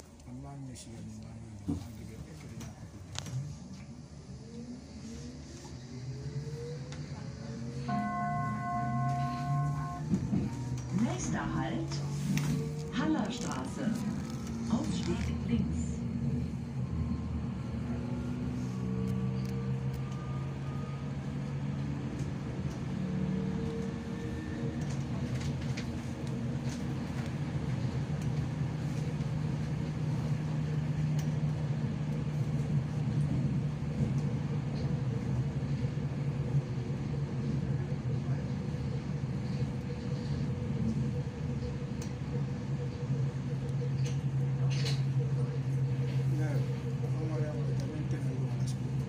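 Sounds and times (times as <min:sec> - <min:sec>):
electric train drive hum: 0:00.0 - 0:49.0
wheels rumbling on rail: 0:00.0 - 0:49.0.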